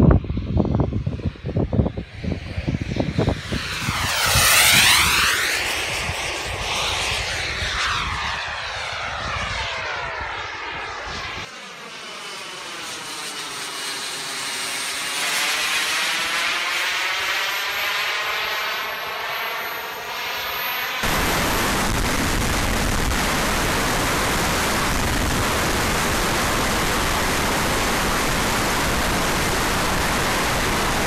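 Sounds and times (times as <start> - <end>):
high turbine whine: 0.0 - 31.0
model jet turbine rush: 0.0 - 31.0.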